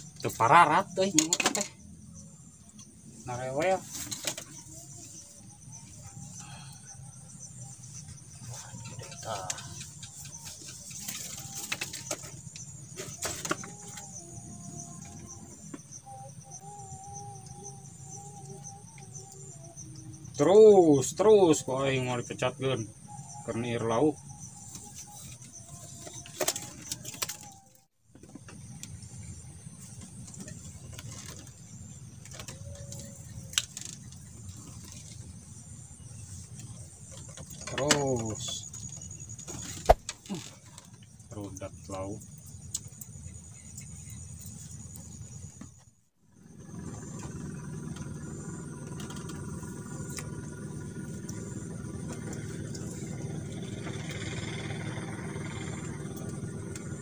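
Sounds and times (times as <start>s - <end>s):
faint wavering hum: 0.0s - 37.6s, 46.4s - 57.0s
insects chirping: 0.0s - 57.0s.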